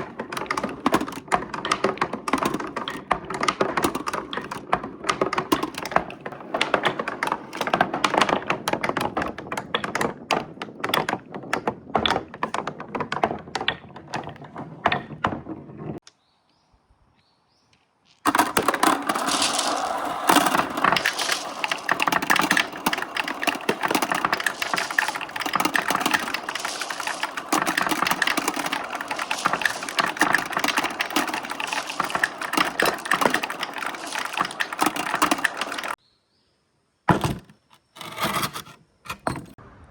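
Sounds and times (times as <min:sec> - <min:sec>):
glass marbles clattering on a track: 0:00.0 - 0:16.0, 0:18.3 - 0:36.0.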